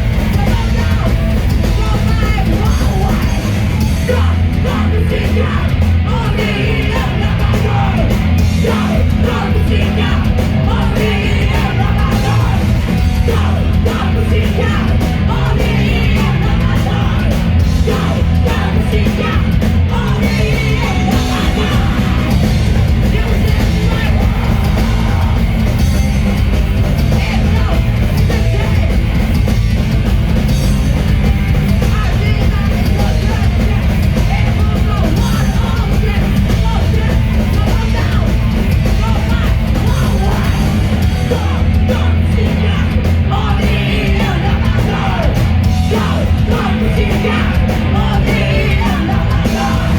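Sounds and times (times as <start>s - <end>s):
heavy rock music: 0.0s - 49.9s
yelled vocals: 0.0s - 49.9s.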